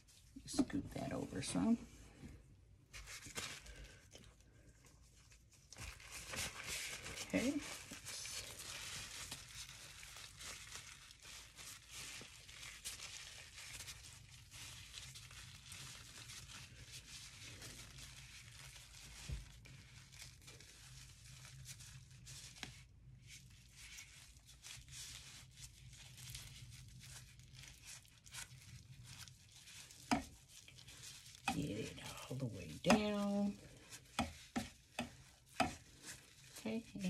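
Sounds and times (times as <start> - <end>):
piping bag crinkling: 0.0 - 37.0.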